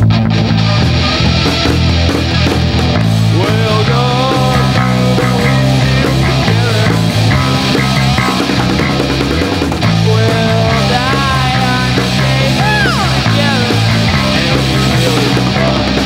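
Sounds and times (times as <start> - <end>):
drums: 0.0 - 16.0
electric bass: 0.0 - 16.0
electric guitar: 0.0 - 16.0.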